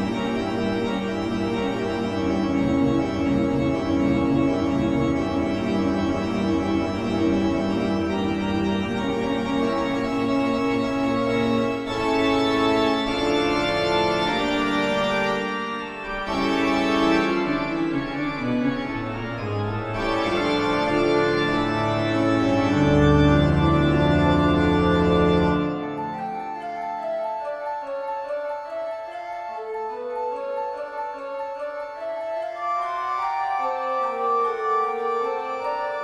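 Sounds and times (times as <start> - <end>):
eerie organ chords: 0.0 - 36.0.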